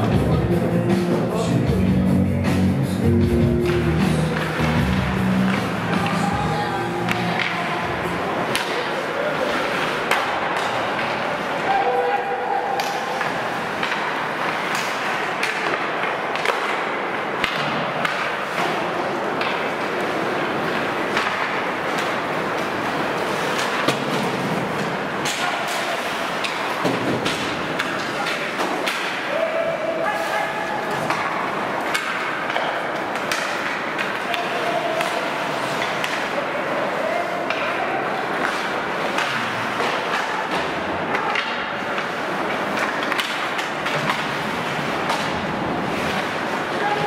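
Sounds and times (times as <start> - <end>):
arena noise: 0.0 - 47.0
hockey play on ice: 0.0 - 47.0
stick and puck clacks: 3.6 - 29.6, 30.6 - 47.0.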